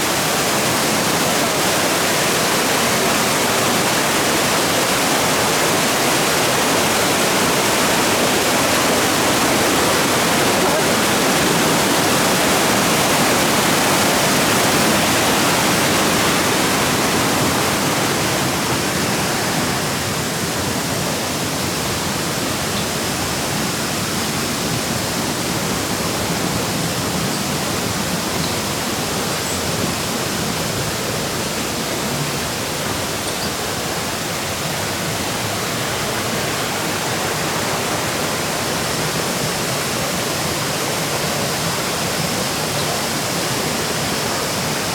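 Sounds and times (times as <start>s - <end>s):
water rushing over rocks: 0.0s - 44.9s.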